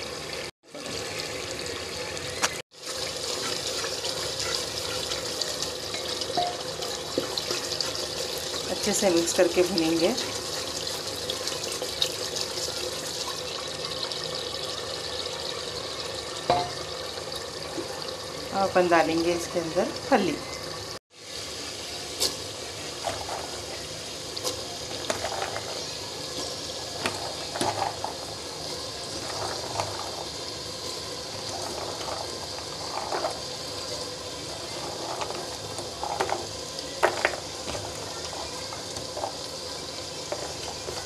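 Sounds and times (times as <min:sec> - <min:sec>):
meat bubbling and sizzling: 0:00.0 - 0:41.0.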